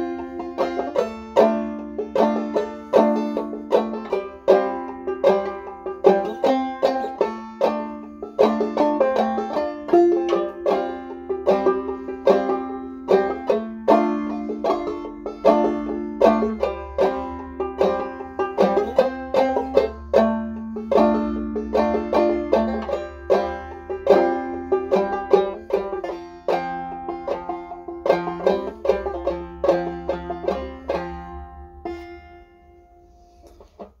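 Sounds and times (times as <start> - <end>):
banjo playing old-time tune: 0.0 - 34.0.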